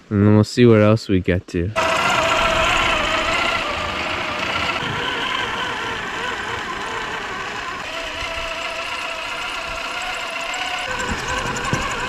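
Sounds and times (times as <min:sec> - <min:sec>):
rc crawler motor whine: 0:01.8 - 0:12.0.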